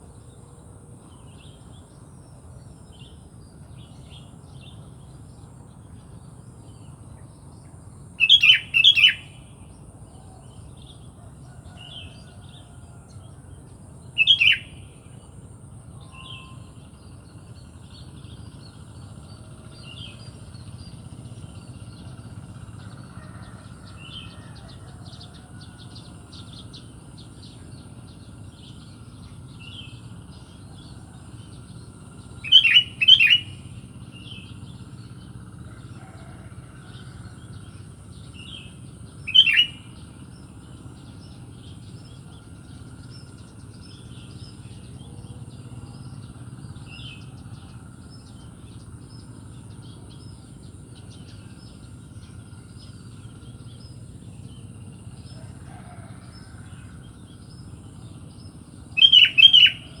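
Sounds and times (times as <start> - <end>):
small birds twittering: 0.0 - 60.0.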